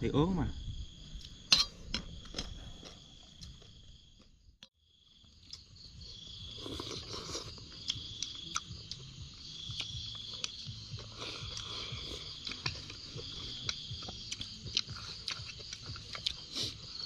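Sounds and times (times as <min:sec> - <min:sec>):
insects trilling: 0:00.1 - 0:17.0.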